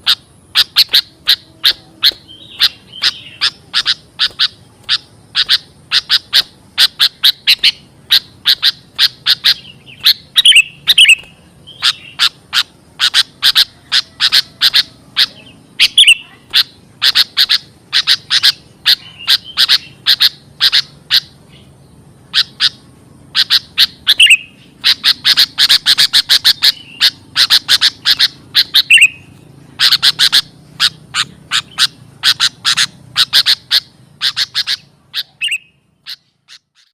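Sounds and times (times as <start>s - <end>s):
bird chip calls: 0.0s - 36.9s.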